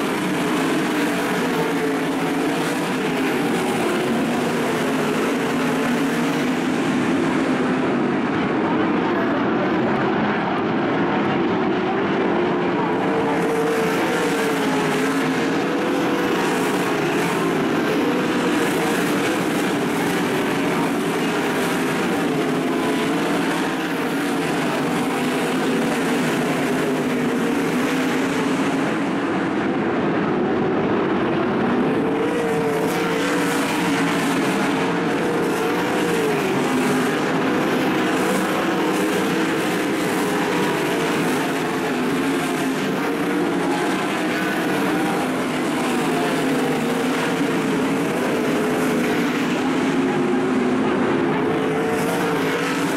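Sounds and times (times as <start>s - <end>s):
race car engines at full revs: 0.0s - 52.9s.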